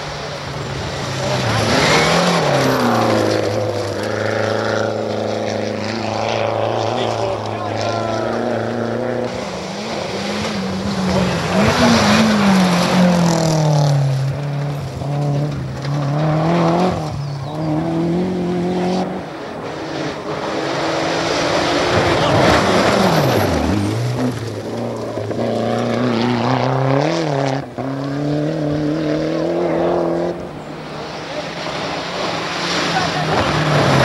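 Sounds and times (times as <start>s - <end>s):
rally car engines revving: 0.0s - 34.0s.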